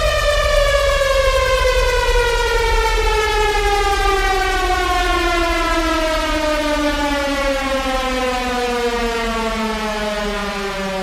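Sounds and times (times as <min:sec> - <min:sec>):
siren-like tone sliding down: 0:00.0 - 0:11.0.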